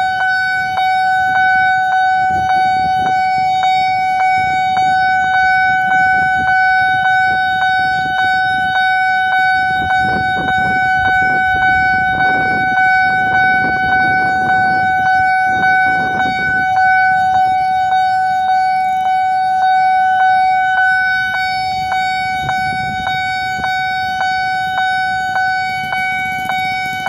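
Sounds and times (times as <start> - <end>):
level-crossing alarm ringing: 0.0 - 27.0
rumble of passing vehicles: 0.0 - 27.0.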